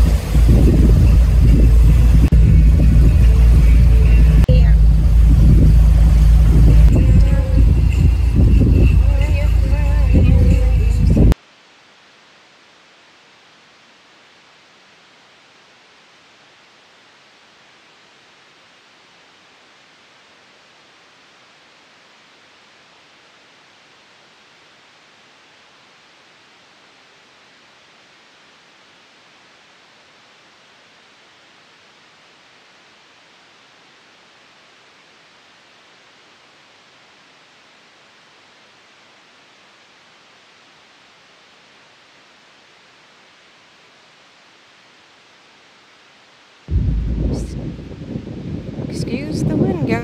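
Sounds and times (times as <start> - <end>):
steady static hiss: 0.0 - 50.0.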